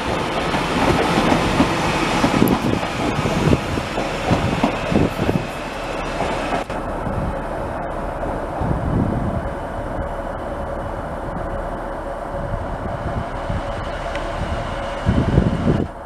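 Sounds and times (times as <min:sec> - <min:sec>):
train passing with heavy rumble: 0:00.0 - 0:16.0.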